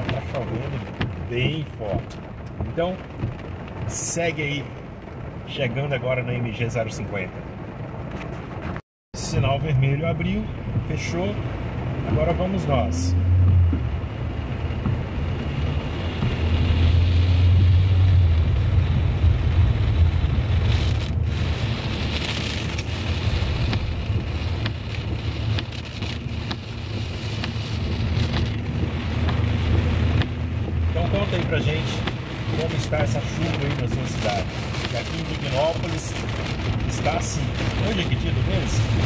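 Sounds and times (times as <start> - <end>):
tyres hissing on wet road: 0.0 - 8.5, 9.2 - 39.0
car engine hum: 0.0 - 39.0
heavy rain drumming on car: 0.0 - 39.0.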